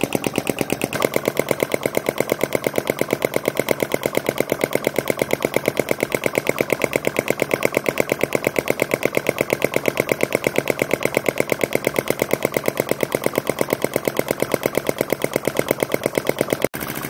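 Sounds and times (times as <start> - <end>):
model engine clattering: 0.0 - 17.0.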